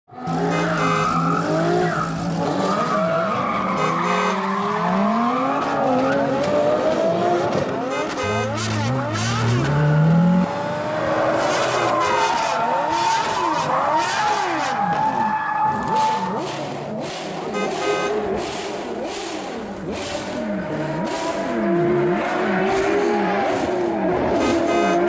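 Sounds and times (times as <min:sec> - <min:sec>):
race car engines revving: 0:00.1 - 0:25.0.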